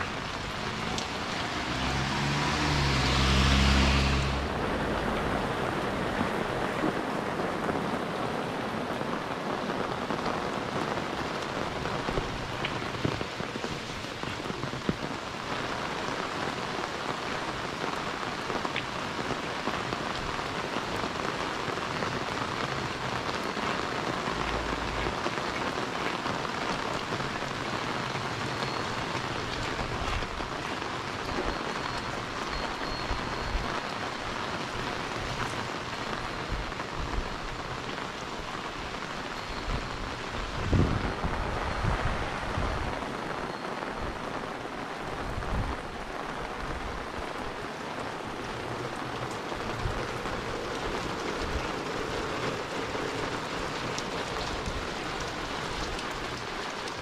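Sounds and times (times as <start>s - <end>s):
car passing on wet road: 0.0s - 57.0s
heavy rain on road and roofs: 0.0s - 57.0s.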